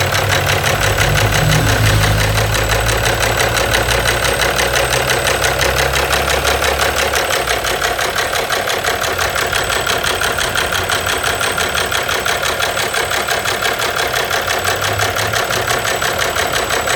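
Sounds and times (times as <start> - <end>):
car engine idling with knock: 0.0 - 16.9.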